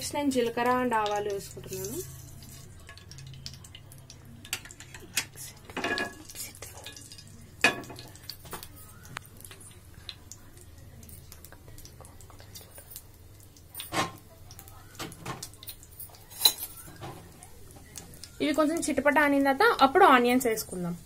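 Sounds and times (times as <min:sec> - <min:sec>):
seeds sizzling in hot oil: 0:00.0 - 0:21.0.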